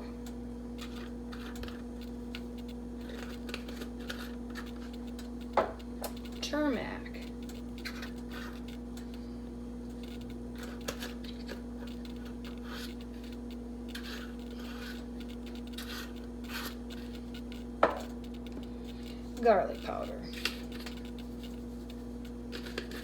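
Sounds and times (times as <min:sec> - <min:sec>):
steady hum: 0:00.0 - 0:23.0
spice containers rubbing and scraping: 0:00.8 - 0:23.0.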